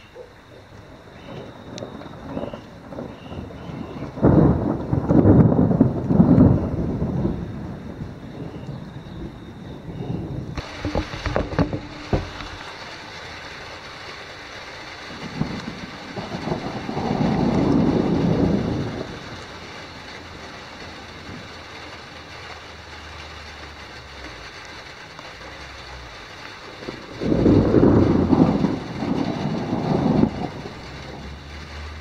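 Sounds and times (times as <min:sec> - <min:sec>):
rain hissing: 0:00.0 - 0:32.0
thunder rumbling: 0:00.0 - 0:32.0.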